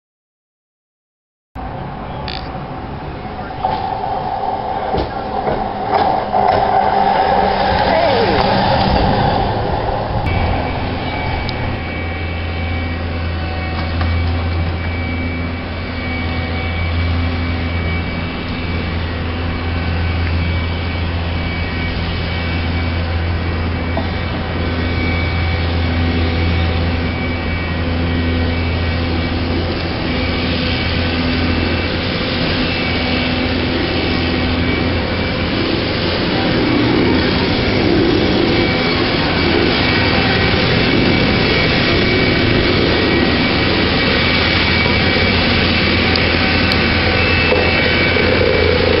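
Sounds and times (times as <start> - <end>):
rail machine engine humming: 1.6 - 49.0.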